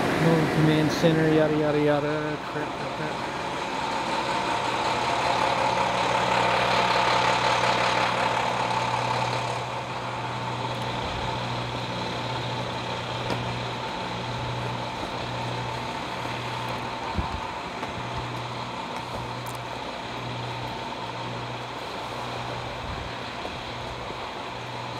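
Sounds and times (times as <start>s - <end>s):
heavy engine idling: 0.0s - 24.9s.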